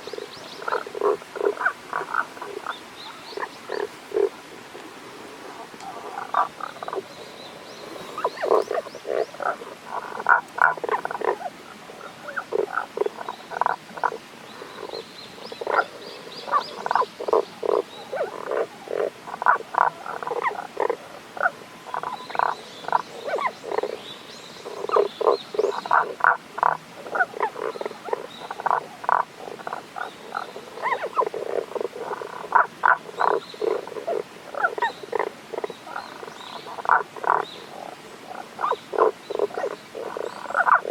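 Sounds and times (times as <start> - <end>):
frogs croaking: 0.0 - 40.9.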